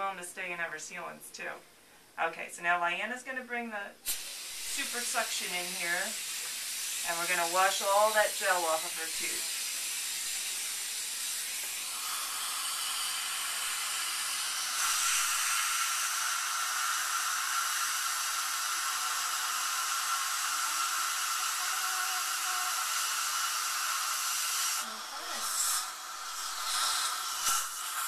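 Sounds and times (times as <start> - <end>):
air-water syringe rinsing: 4.0 - 28.0
dental suction hissing: 4.0 - 28.0.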